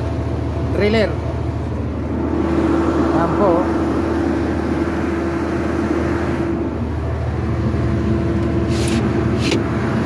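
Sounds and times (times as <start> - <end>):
diesel engine running: 0.0 - 10.0
steady higher hum: 0.0 - 10.0.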